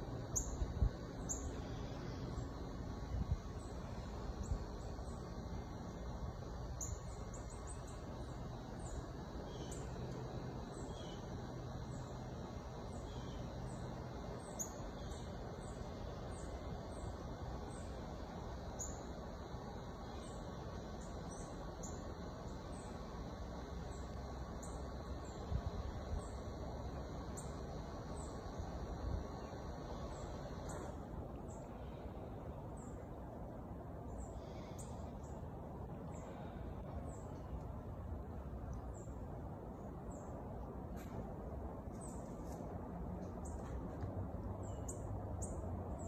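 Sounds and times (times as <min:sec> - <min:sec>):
low outdoor rumble: 0:00.0 - 0:46.0.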